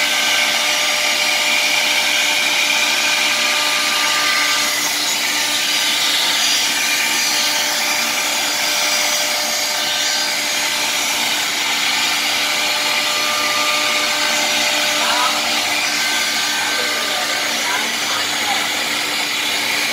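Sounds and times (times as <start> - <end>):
dust extraction running: 0.0 - 19.9
router spindle cutting wood: 0.0 - 19.9.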